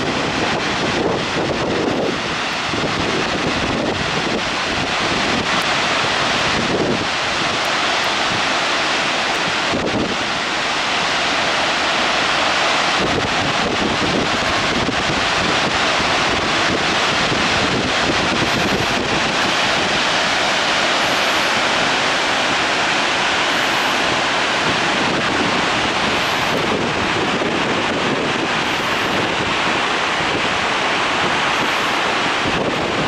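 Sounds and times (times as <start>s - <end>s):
loud rush of falling water: 0.0s - 33.0s.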